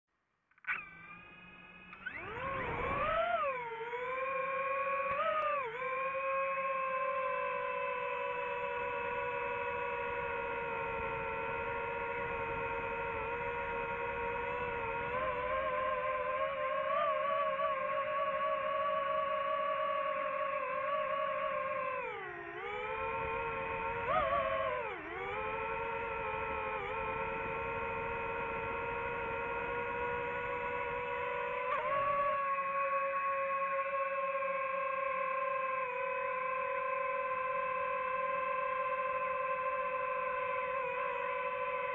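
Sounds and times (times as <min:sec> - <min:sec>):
drone propellers whining: 0:00.6 - 0:41.9.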